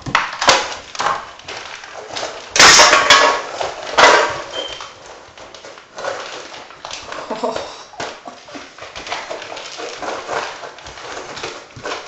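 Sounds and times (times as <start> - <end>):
bowl and kibble clattering: 0.0 - 12.0
puppies scrambling at food bowl: 0.0 - 12.0.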